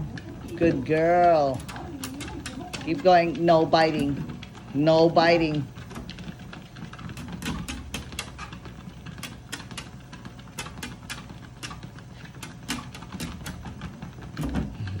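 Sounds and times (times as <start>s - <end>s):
dog claws clicking on treadmill: 0.0s - 15.0s
treadmill humming: 0.0s - 15.0s.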